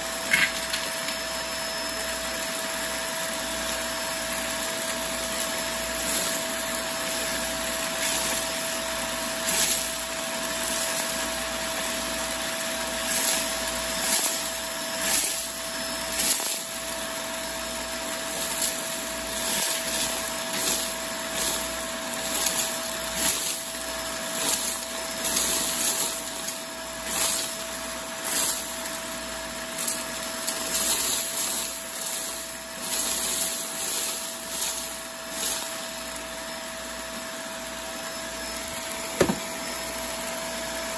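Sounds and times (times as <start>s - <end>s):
debris rattling up vacuum hose: 0.0s - 40.9s
vacuum cleaner motor whine: 0.0s - 40.9s.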